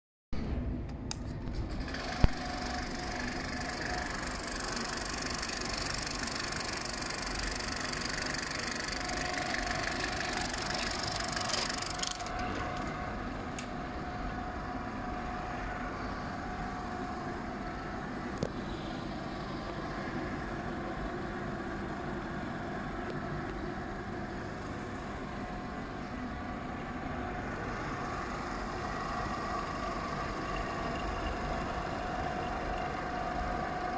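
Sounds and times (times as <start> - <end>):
film projector whirring: 1.6 - 33.9.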